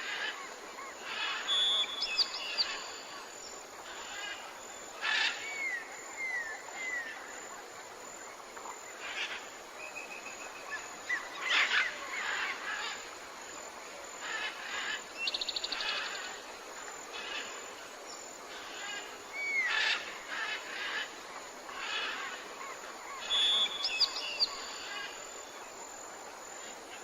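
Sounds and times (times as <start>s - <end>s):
high insect drone: 0.0s - 27.0s.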